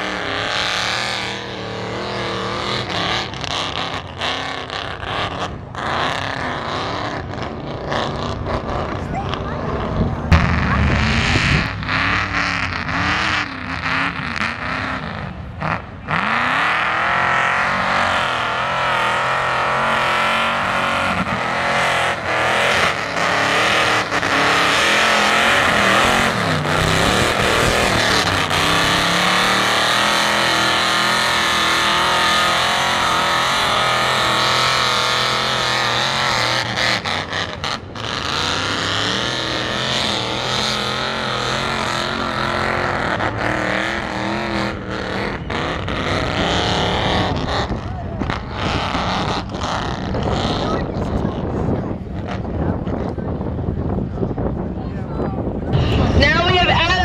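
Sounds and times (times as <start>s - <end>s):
truck churning through mud: 0.0s - 50.7s
truck engine revving: 0.0s - 57.0s.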